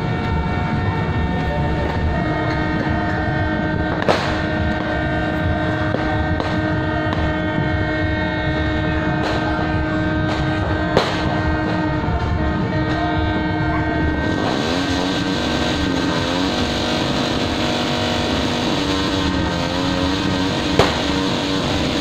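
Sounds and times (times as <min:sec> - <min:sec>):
firecracker bangs: 0:00.0 - 0:22.0
many horns blaring: 0:00.0 - 0:22.0.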